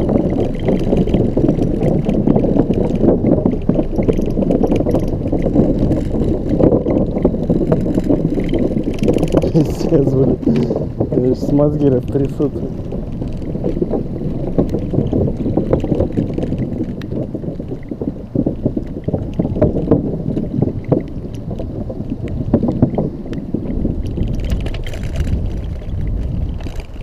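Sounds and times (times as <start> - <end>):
electric scooter rattling on rough surface: 0.0 - 27.0.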